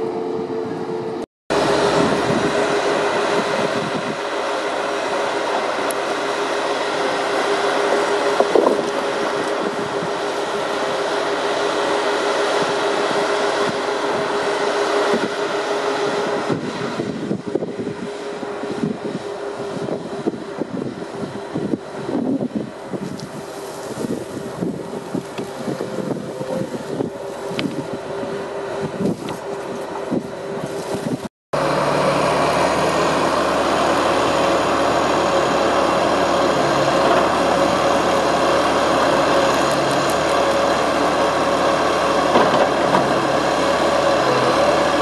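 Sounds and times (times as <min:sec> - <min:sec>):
forestry machine engine and hydraulics: 0:00.0 - 0:45.0
steady machine whine: 0:00.0 - 0:45.0.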